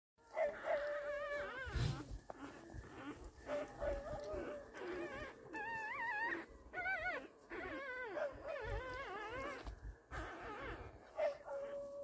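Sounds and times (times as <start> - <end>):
puppies whimpering: 0.2 - 12.0.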